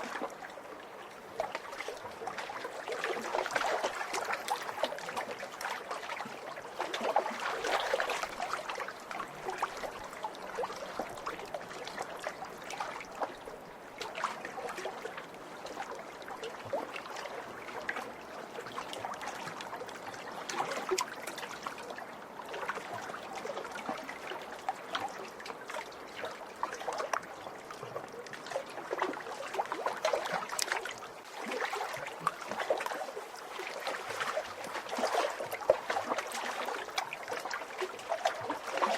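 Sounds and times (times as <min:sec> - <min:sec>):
lake waves lapping against shore: 0:00.0 - 0:38.9.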